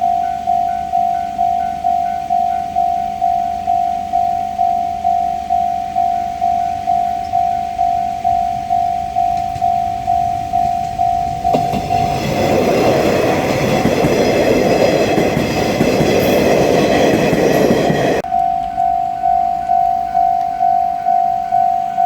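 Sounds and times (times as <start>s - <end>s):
level-crossing bell ringing: 0.0s - 22.0s
train rumble and wheel noise: 0.0s - 22.0s.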